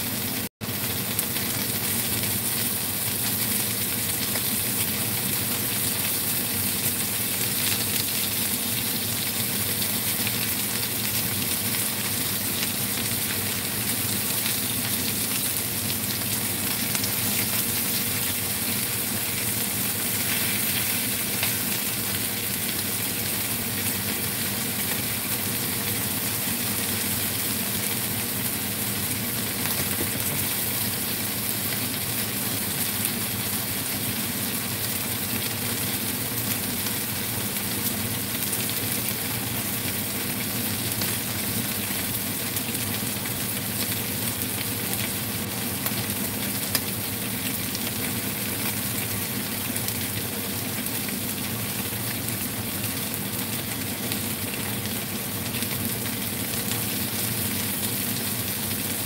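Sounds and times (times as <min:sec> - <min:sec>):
fish sizzling in oil: 0:00.0 - 0:59.0.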